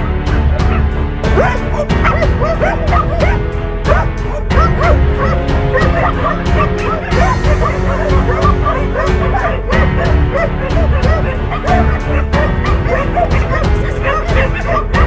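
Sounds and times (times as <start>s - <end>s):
dogs barking and yelping: 0.0s - 15.0s
music with steady beat: 0.0s - 15.0s.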